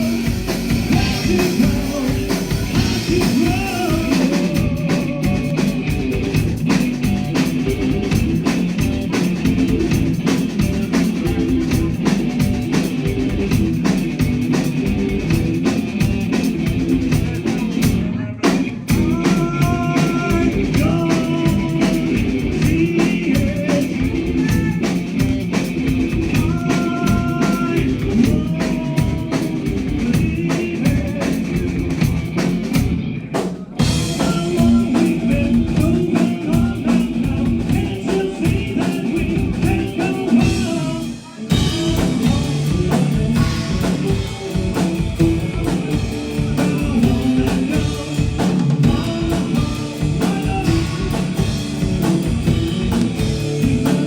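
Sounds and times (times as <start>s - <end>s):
person singing: 0.0s - 6.8s, 15.3s - 32.5s, 33.8s - 54.0s
drum kit: 0.0s - 54.0s
electric guitar: 0.0s - 54.0s.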